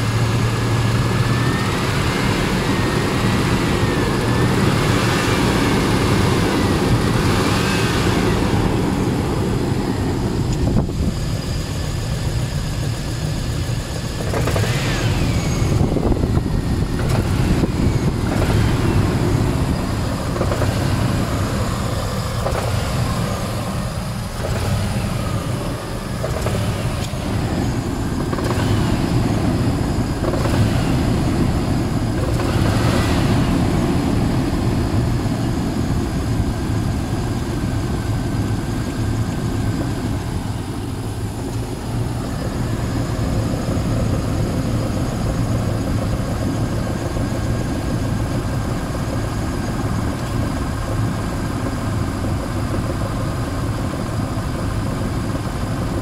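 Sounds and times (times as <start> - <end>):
engine running with knock: 0.0 - 56.0.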